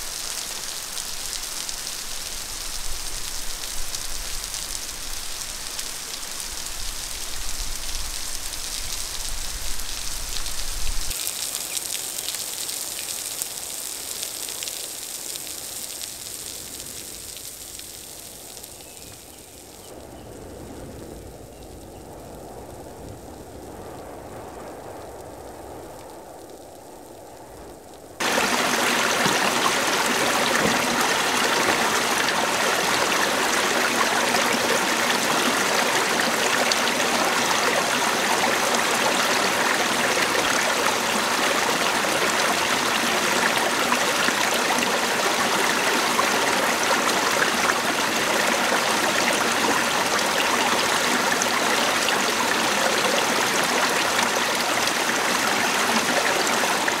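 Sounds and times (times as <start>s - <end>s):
mountain stream rushing: 0.0s - 18.6s, 28.2s - 57.0s.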